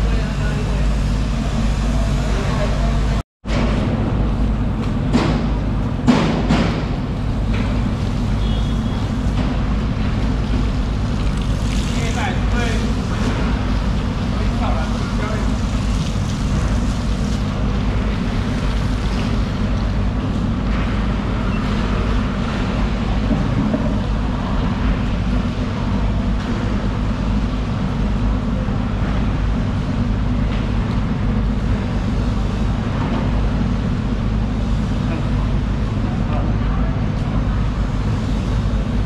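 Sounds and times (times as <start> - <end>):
low engine rumble: 0.0 - 39.0.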